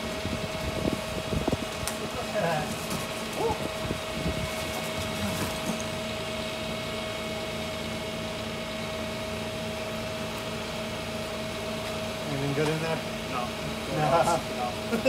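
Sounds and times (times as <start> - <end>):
grinder machine humming and whining: 0.0 - 15.0.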